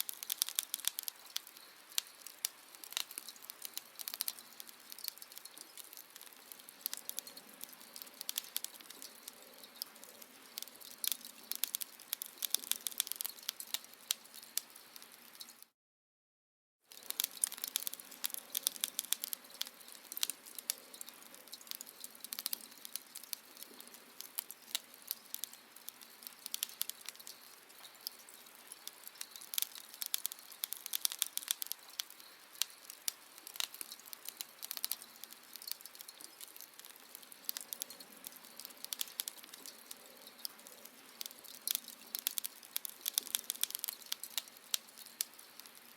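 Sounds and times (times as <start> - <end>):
fire crackling and popping: 0.0 - 15.7, 16.9 - 45.9.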